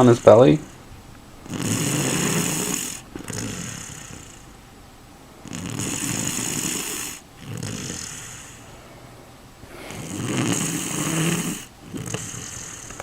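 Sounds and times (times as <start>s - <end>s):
person snoring: 0.0s - 4.5s, 5.4s - 13.0s.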